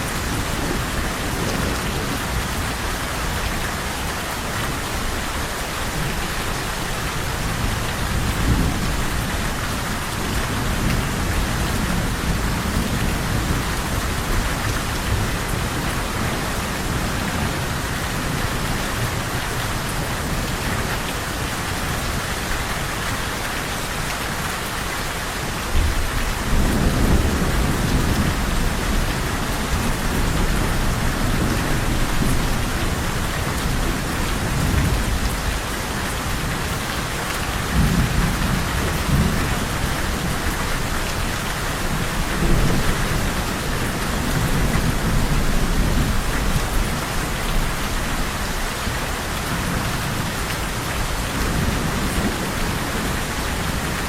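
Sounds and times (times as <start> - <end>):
heavy rain falling: 0.0 - 54.0
low thunder rumbling: 0.0 - 54.0.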